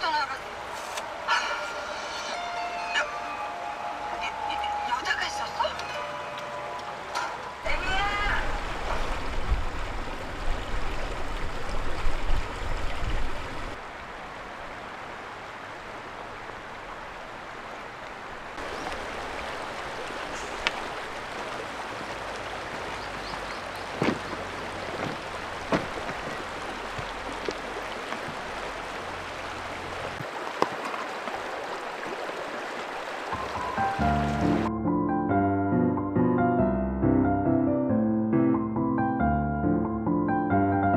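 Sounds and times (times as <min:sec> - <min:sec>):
river rushing over pebbles: 0:00.0 - 0:34.7.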